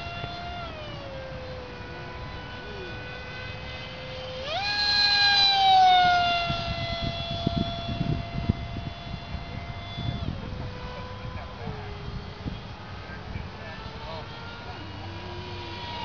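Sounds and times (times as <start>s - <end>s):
model airplane motor droning: 0.0s - 16.0s.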